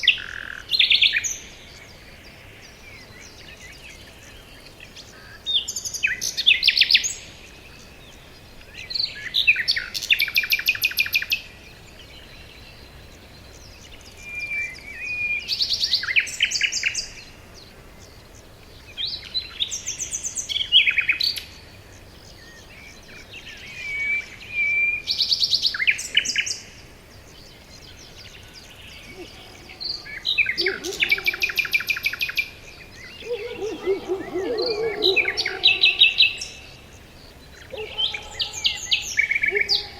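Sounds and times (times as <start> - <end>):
soft steady hiss: 0.0 - 39.9
songbird singing: 0.0 - 39.9.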